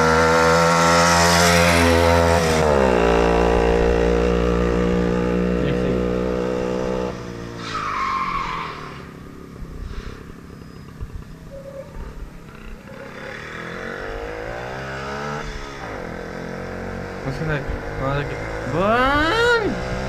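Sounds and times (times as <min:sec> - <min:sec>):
motorcycle engine revving: 0:00.0 - 0:07.6, 0:08.4 - 0:20.0.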